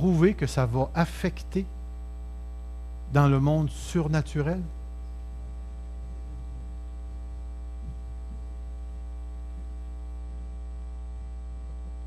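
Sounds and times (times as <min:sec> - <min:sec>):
faint buzz: 0:00.0 - 0:12.0
low mains hum: 0:00.0 - 0:12.0.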